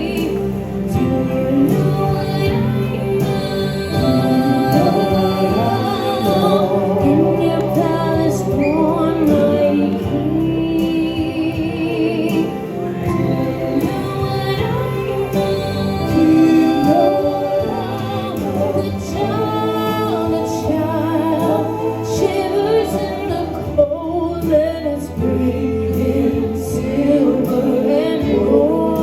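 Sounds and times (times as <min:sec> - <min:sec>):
musical accompaniment: 0:00.0 - 0:29.0
voices singing christmas song: 0:00.0 - 0:29.0.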